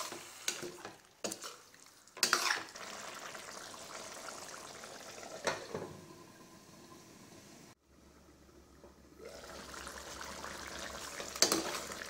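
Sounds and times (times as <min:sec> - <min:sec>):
curry sizzling in a pan: 0:00.0 - 0:07.8, 0:09.3 - 0:12.0.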